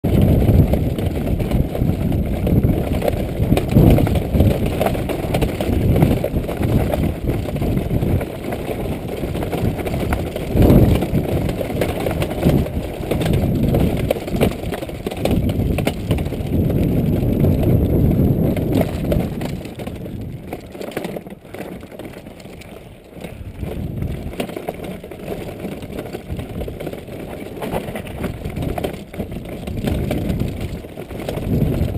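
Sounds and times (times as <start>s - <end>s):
handbike rumbling over rough ground: 0.0s - 31.9s.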